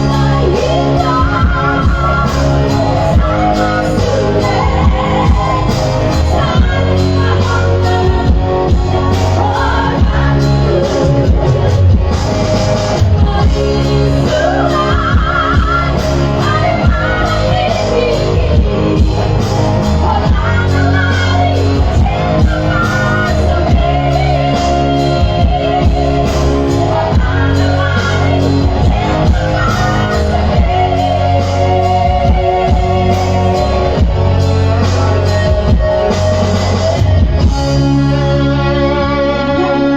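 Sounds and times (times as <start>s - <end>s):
woman singing: 0.0s - 12.0s, 12.8s - 37.8s
band accompaniment: 0.0s - 39.9s.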